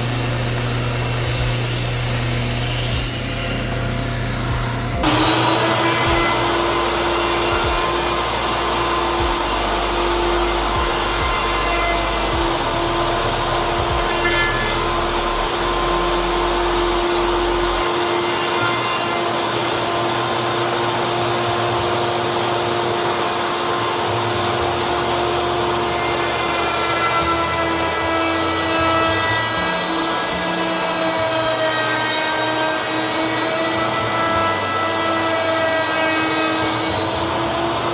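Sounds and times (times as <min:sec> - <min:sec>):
power tool whining: 0:00.0 - 0:37.9.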